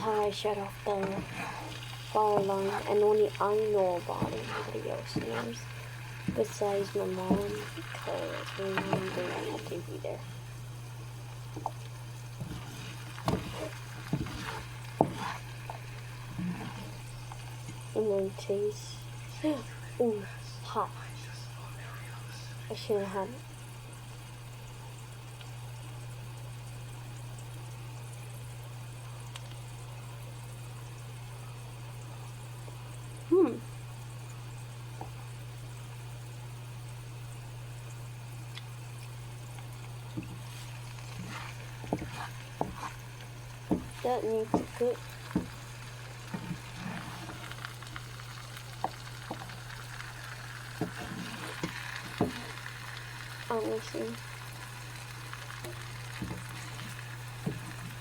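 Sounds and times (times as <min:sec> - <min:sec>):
food frying on stove: 0:00.0 - 0:58.0.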